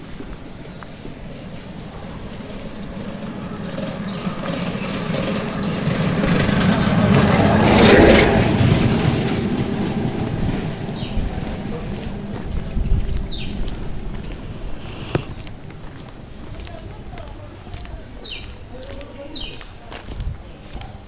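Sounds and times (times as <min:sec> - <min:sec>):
bird chirps: 0:00.0 - 0:06.8, 0:09.1 - 0:19.8
vehicle passing on brick road: 0:00.0 - 0:21.0.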